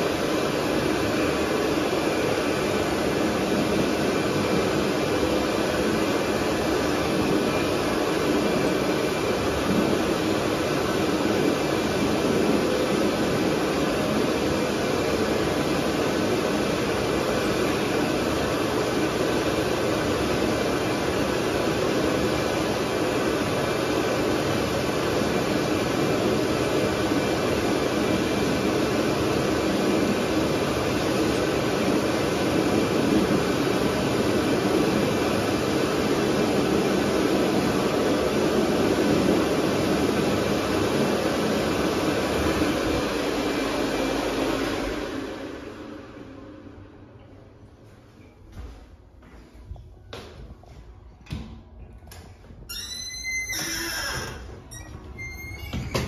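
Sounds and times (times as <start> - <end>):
hand dryer blowing air: 0.0 - 46.7.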